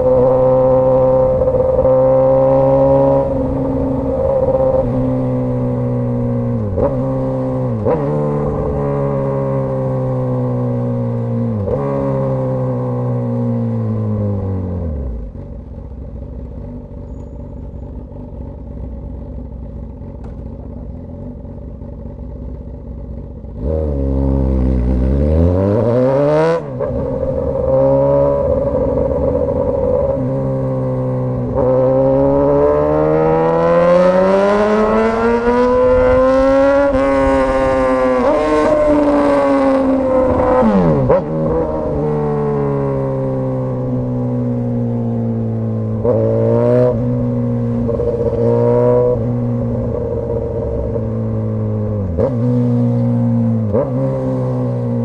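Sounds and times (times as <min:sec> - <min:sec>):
loud motorcycle exhaust revving: 0:00.0 - 0:15.2, 0:23.2 - 0:55.0.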